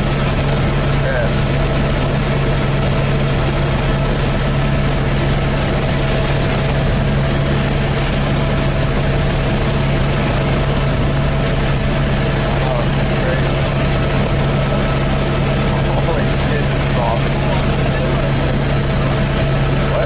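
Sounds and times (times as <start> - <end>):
helicopter cabin drone: 0.0 - 20.0.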